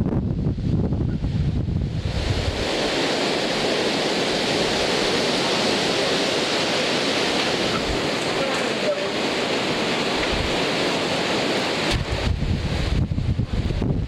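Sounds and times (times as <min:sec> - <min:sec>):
wind buffeting microphone: 0:00.0 - 0:14.0
heavy rain hissing: 0:00.9 - 0:14.0.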